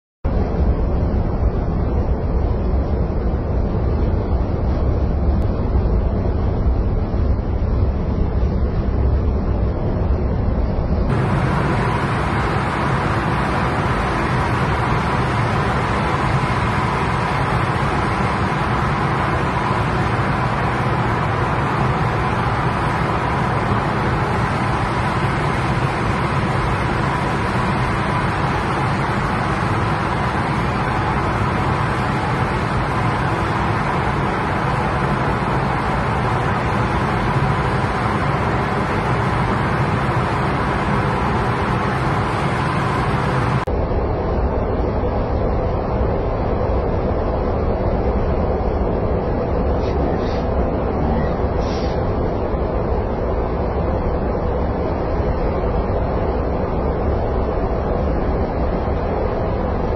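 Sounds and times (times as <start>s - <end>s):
car tyre and engine drone: 0.3s - 59.9s
thin steady whine: 0.3s - 59.9s.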